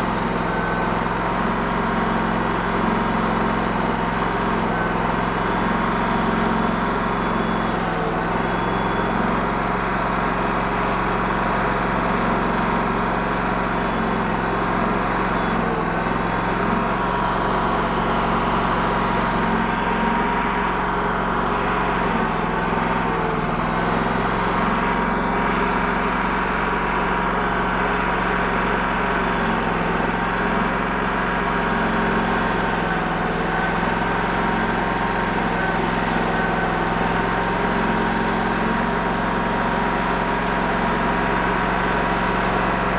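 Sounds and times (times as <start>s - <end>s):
band sawmill cutting log: 0.0s - 42.9s.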